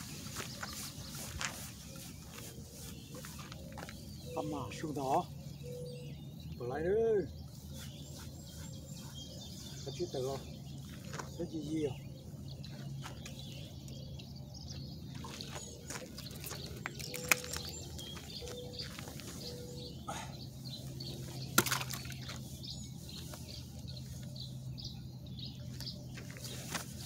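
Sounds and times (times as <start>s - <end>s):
faint bird chirps: 0.0s - 27.0s.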